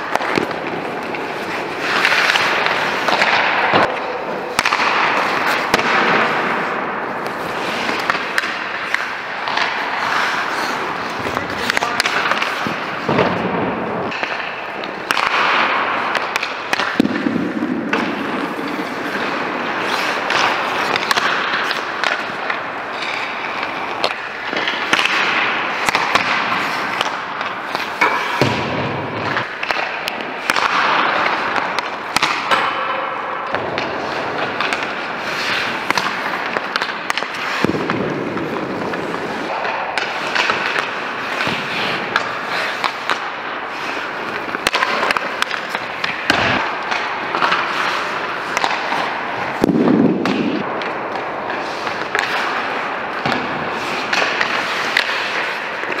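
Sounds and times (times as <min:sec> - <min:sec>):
pucks cracking off boards: 0:00.0 - 0:56.0
skate blades scraping ice: 0:00.0 - 0:56.0
sticks hitting pucks: 0:00.0 - 0:56.0.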